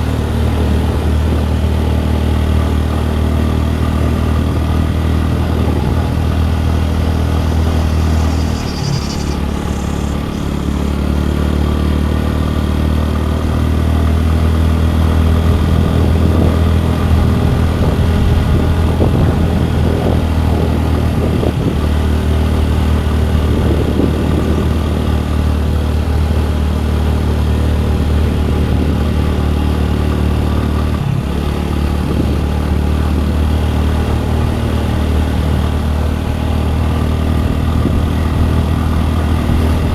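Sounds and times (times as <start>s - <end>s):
road and wind noise: 0.0s - 39.9s
scooter engine humming: 0.0s - 39.9s.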